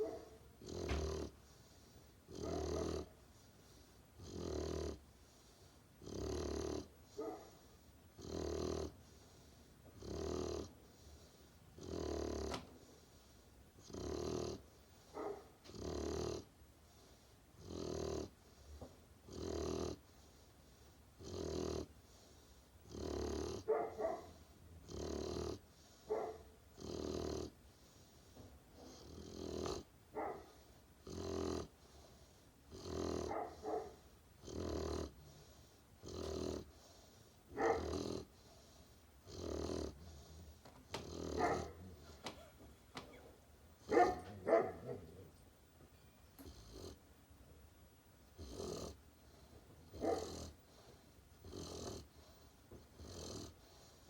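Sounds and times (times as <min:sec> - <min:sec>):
puppy snoring: 0:00.0 - 0:43.2, 0:46.4 - 0:47.0, 0:48.4 - 0:54.0.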